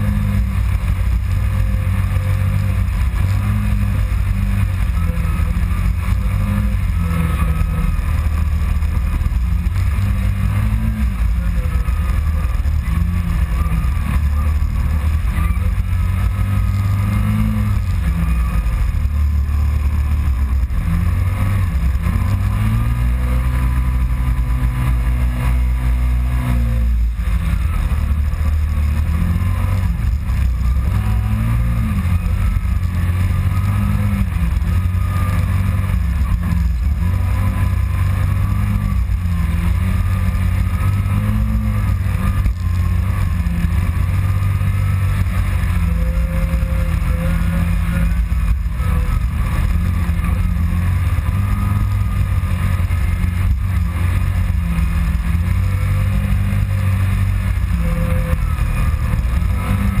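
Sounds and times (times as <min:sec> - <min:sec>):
vehicle engine running: 0:00.0 - 1:00.0.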